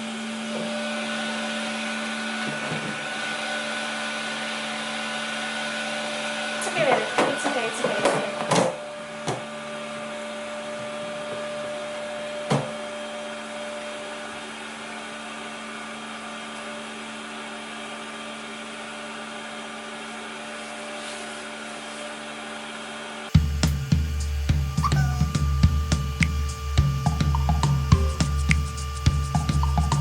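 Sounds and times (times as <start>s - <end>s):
fan motor whirring hum: 0.0s - 30.0s.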